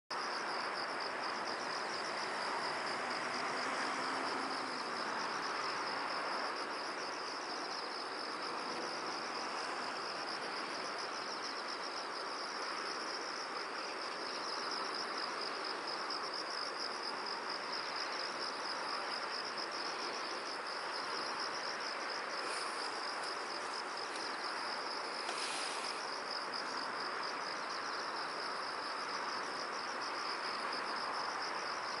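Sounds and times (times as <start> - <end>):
background hiss: 0.1 - 32.0
insects chirring: 0.1 - 32.0.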